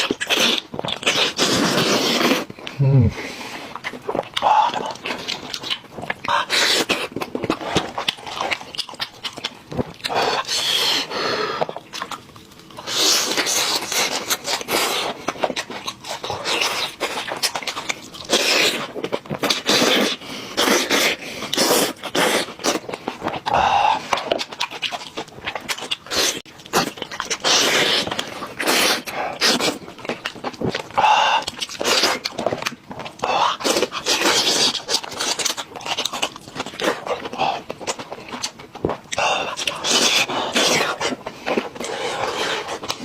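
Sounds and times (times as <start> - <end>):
chewing and crunching: 0.0 - 43.0.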